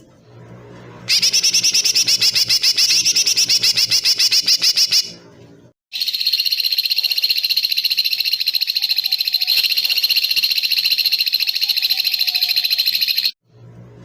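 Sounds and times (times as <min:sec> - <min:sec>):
high-pitched rapid bird trill: 0:01.1 - 0:05.2, 0:05.9 - 0:13.4.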